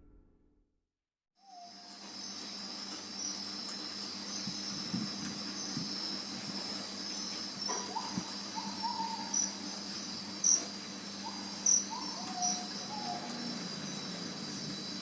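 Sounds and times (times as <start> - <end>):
insects chirring: 1.5 - 15.0.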